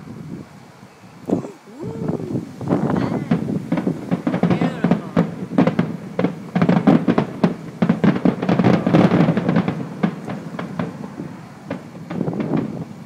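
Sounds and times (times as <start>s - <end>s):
fireworks bangs and crackles: 1.3s - 13.0s.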